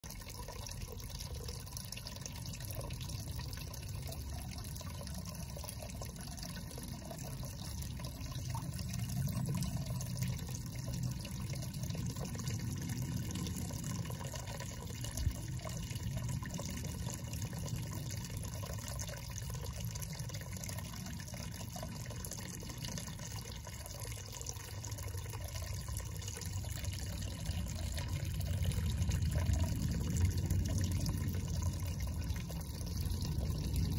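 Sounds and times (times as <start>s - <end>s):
water splashing into pond: 0.0s - 33.9s.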